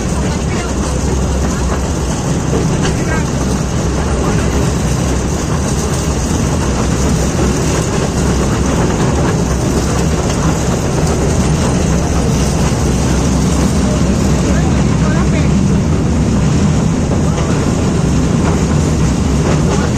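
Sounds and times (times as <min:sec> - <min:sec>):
toy train rumbling: 0:00.0 - 0:19.9.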